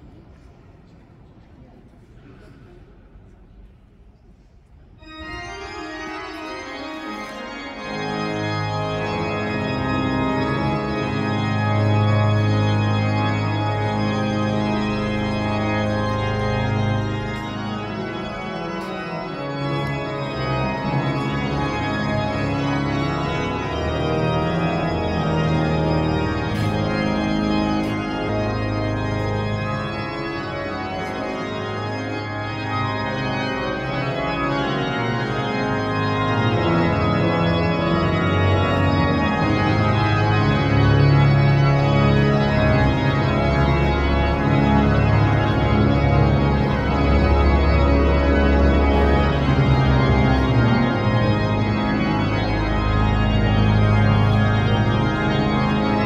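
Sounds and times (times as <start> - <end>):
pipe organ chords: 5.0 - 56.0.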